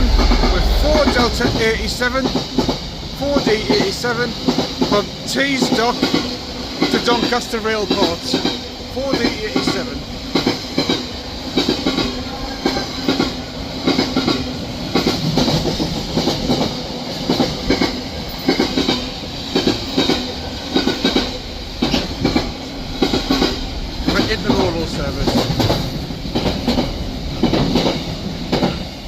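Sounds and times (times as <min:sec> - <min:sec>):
freight train passing: 0:00.0 - 0:29.0
wheels clacking over rail joints: 0:00.0 - 0:29.0.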